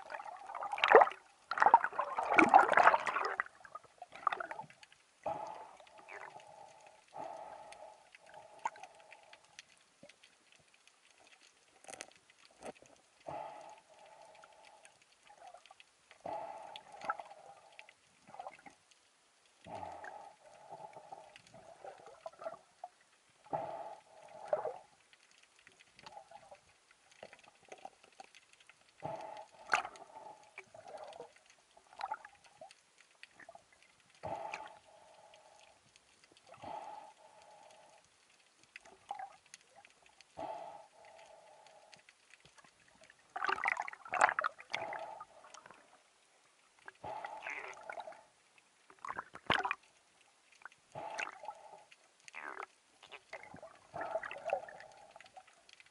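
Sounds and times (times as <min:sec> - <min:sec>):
muffled underwater water sloshing: 0:00.0 - 0:55.9.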